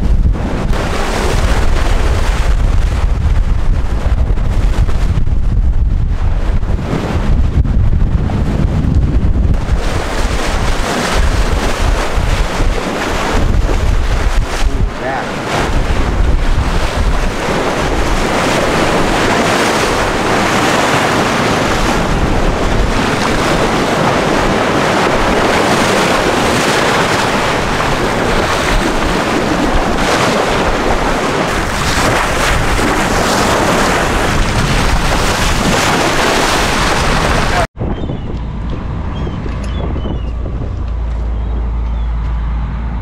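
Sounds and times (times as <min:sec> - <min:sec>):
low rumbles: 0:00.0 - 0:19.3, 0:27.2 - 0:43.0
sea water washing: 0:00.0 - 0:37.7
wind buffeting microphone: 0:00.0 - 0:43.0.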